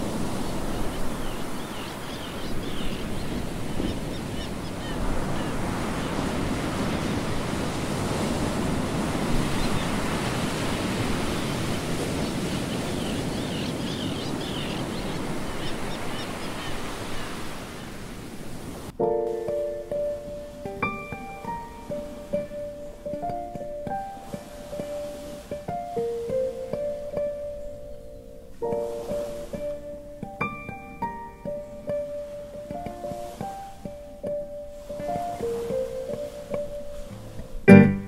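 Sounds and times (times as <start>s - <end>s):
small waves washing onto sand: 0.0s - 27.6s, 28.5s - 38.0s.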